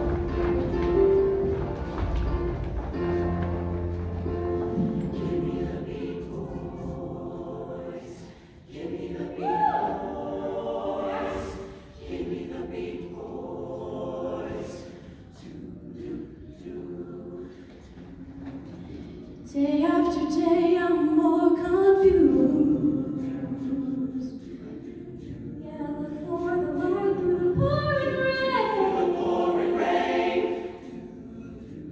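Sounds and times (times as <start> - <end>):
mixed-voice choir singing: 4.2 - 31.9.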